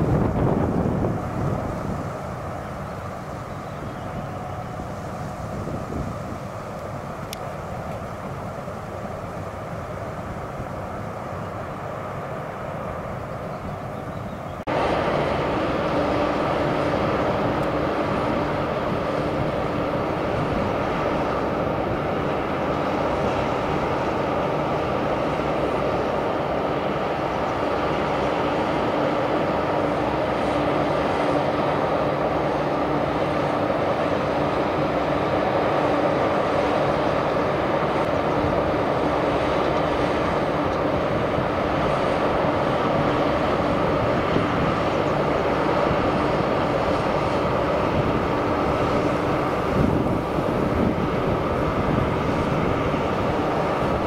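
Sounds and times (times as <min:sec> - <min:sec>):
held humming tones: 0:00.0 - 0:54.0.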